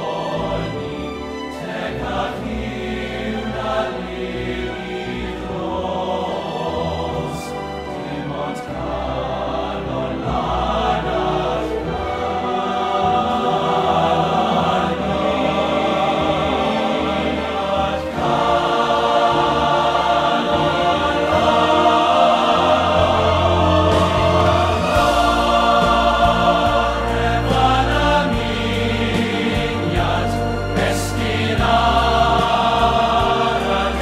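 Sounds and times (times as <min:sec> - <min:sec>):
choir singing long notes: 0:00.0 - 0:34.0.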